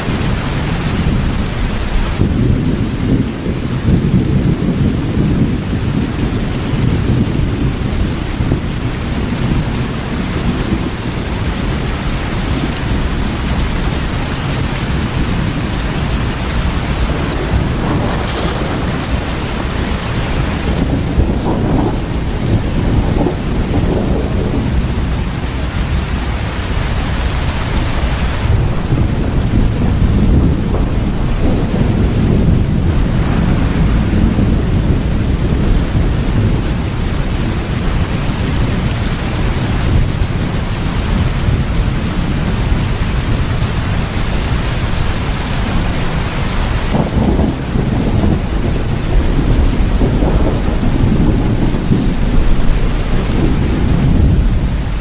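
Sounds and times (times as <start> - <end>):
heavy rain: 0.0 - 55.0
low rolling thunder: 0.0 - 55.0.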